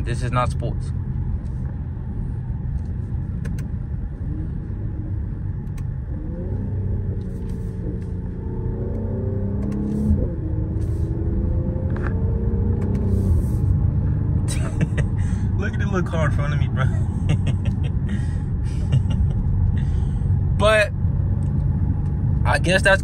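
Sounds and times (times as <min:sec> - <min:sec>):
car engine accelerating: 0:00.0 - 0:23.0
road rumble: 0:00.0 - 0:23.0.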